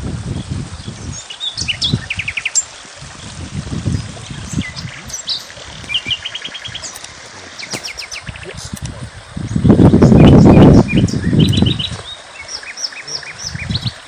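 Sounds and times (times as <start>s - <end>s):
small birds chirping: 0.8s - 14.0s.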